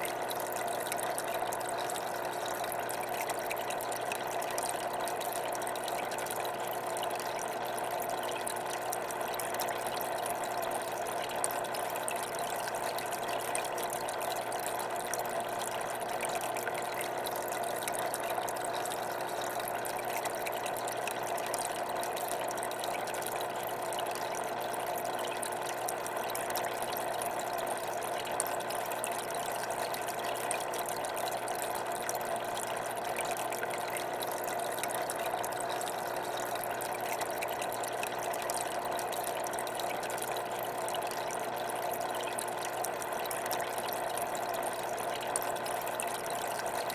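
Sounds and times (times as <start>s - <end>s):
faint motor hum: 0.0s - 46.9s
water rushing in aquarium: 0.0s - 46.9s.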